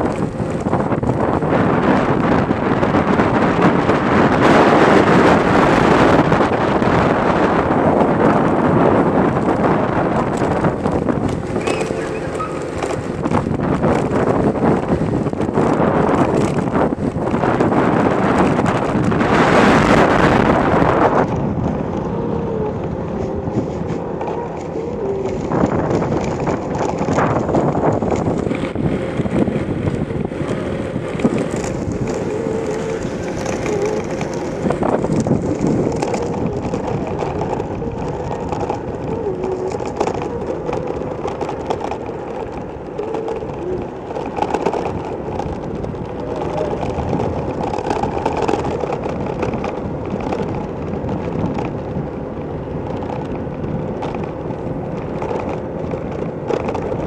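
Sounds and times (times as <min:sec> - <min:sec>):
rushing air: 0:00.0 - 0:52.2
rolling road noise: 0:00.0 - 0:57.0.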